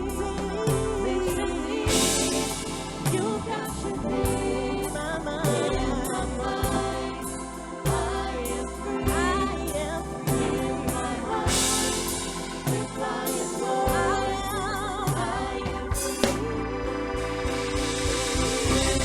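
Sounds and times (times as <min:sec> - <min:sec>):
band with bass and drums: 0:00.0 - 0:19.0.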